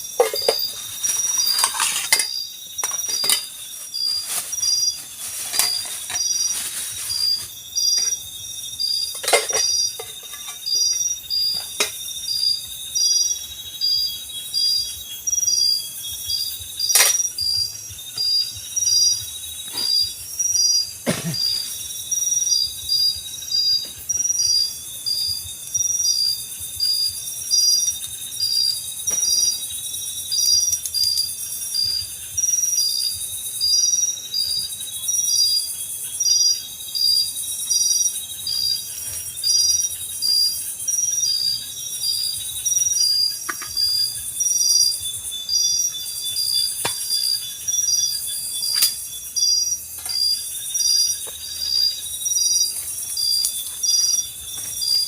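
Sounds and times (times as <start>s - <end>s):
crickets chirping: 0.0s - 55.0s
insects hissing: 0.0s - 55.0s.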